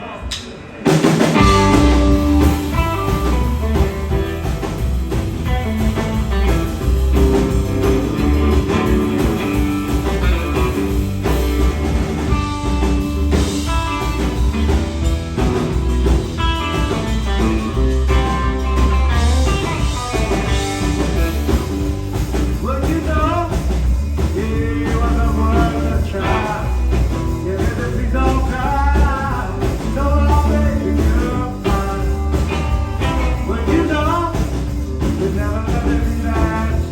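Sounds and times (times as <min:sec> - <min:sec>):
drum kit: 0:00.0 - 0:36.9
electric guitar: 0:00.9 - 0:36.9
electric bass: 0:01.2 - 0:36.9.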